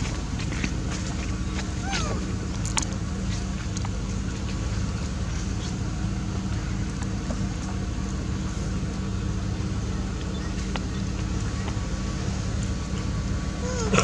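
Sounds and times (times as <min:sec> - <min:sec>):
low drone with hum: 0:00.0 - 0:14.0.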